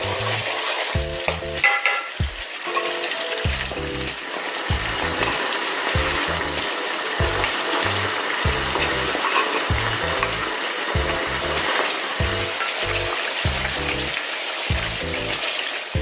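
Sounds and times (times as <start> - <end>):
background music with bass line: 0.0 - 1.6, 3.5 - 5.4, 6.0 - 15.4
meat sizzling in a frying pan: 0.0 - 16.0.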